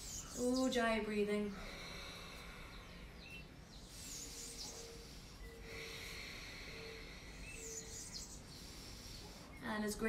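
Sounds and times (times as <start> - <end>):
faint steady tone: 0.0 - 9.8
slow hissing breaths: 0.0 - 9.8.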